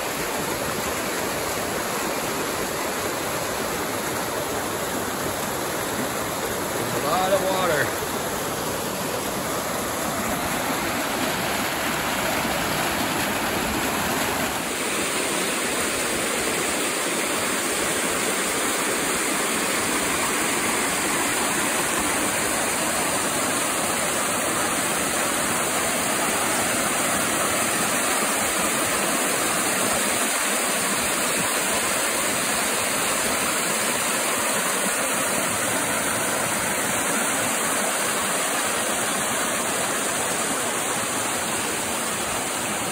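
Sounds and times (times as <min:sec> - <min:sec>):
waterfall rushing over rock: 0:00.0 - 0:42.9.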